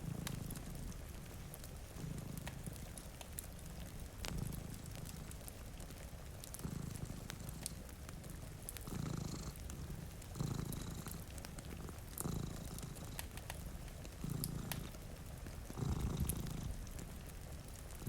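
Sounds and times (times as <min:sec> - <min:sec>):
cat purring: 0:00.0 - 0:18.0
wood fire crackling: 0:00.0 - 0:18.0.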